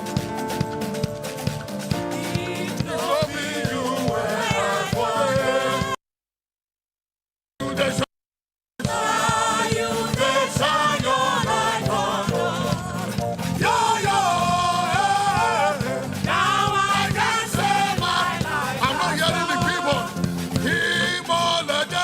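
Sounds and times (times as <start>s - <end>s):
gospel music with singing: 0.0s - 6.0s, 7.6s - 8.1s, 8.8s - 22.0s.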